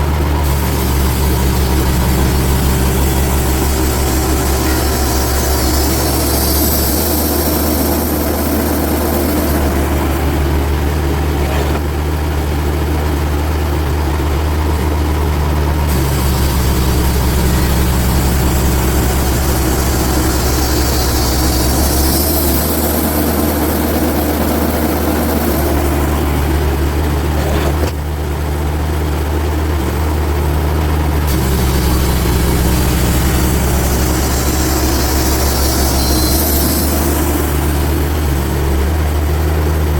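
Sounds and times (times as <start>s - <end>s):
sawmill engine running: 0.0s - 39.9s
saw cutting hiss: 0.1s - 12.3s, 15.8s - 28.1s, 31.2s - 39.8s.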